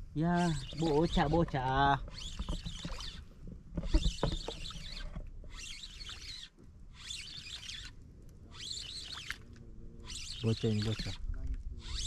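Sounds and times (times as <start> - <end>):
spinning reel whirring: 0.2 - 12.0.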